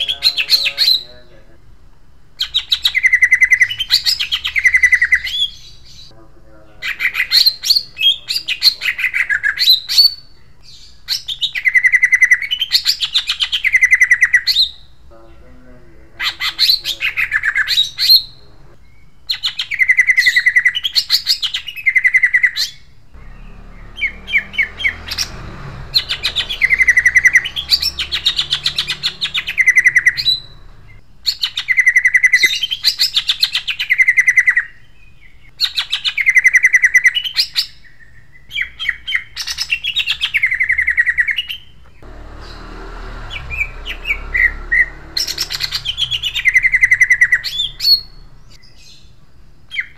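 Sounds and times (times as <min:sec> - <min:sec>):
bird singing rolling song: 0:00.0 - 0:49.9.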